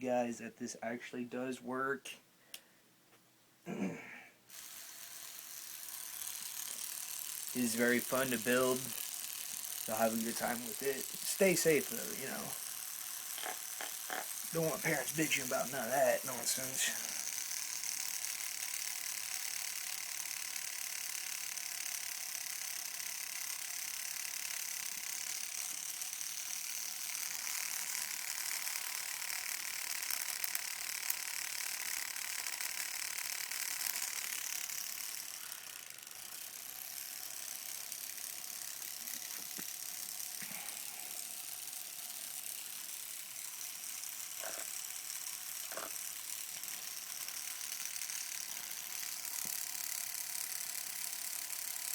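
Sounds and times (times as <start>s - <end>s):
tattoo machine buzzing: 4.5s - 51.9s.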